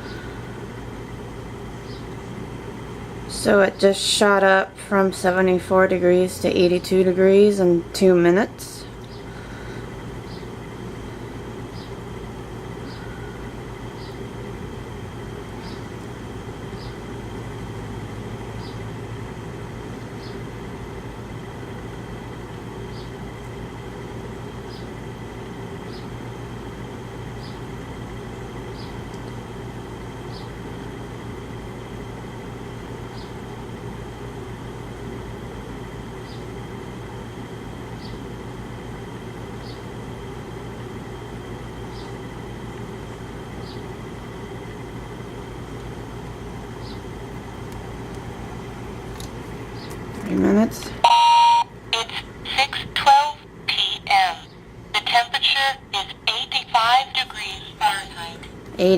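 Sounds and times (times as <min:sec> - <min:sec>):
air conditioner humming: 0:00.0 - 0:58.9.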